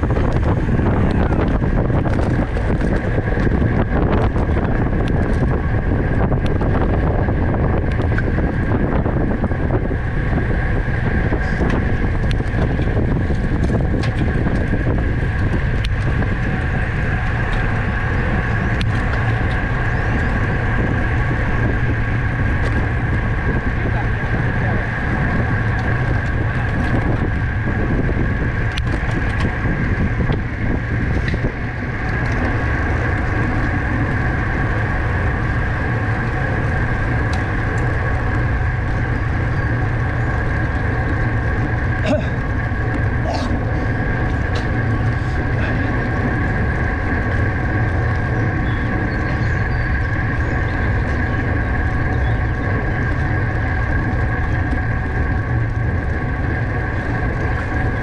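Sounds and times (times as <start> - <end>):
bicycle drivetrain and tyre hum: 0.0 - 58.0
wind rumble on microphone: 0.0 - 58.0.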